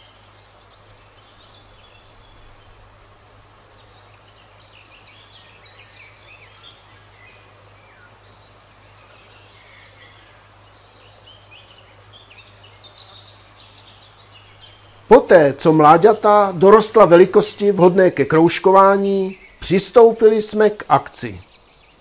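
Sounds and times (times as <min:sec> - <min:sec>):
small birds chirping and trilling: 0:00.0 - 0:22.0
steady low hum: 0:00.0 - 0:22.0.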